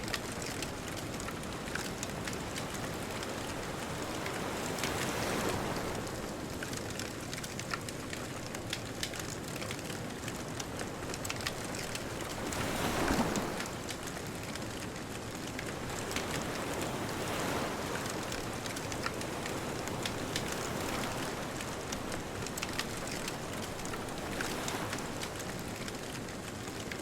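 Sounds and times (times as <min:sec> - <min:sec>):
distant ocean waves: 0:00.0 - 0:07.4, 0:09.0 - 0:26.9
bonfire crackling and popping: 0:00.0 - 0:27.0.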